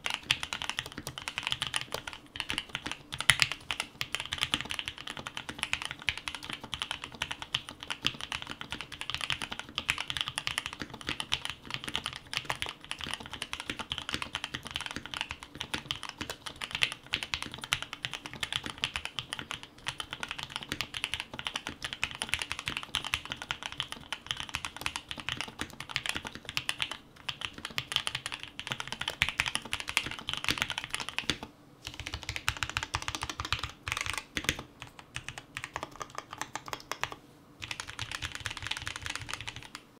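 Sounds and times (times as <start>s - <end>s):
fast typing on mechanical keyboard: 0.0s - 40.0s.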